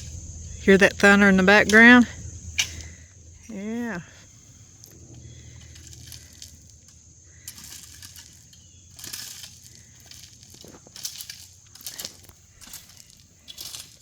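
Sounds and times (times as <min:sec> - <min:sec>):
insects trilling: 0:00.0 - 0:14.0
short crunches: 0:00.0 - 0:14.0.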